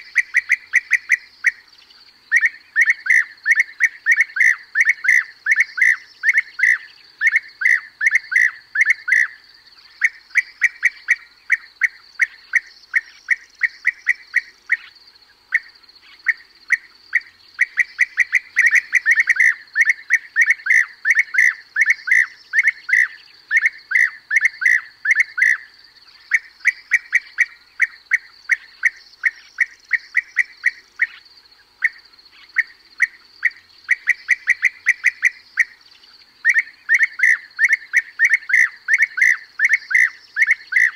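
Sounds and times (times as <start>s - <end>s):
bird calls: 0.0s - 40.9s
steady high hiss: 0.0s - 40.9s.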